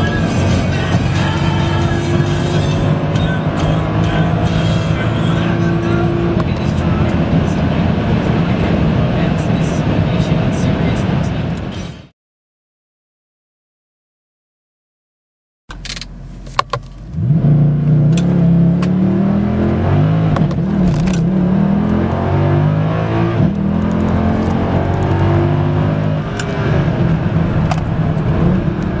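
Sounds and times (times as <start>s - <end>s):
car engine accelerating: 0.0s - 11.8s, 15.7s - 29.0s.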